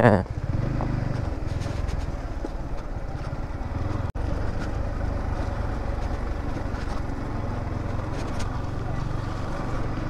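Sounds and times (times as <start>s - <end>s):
motorcycle engine running: 0.1s - 10.0s.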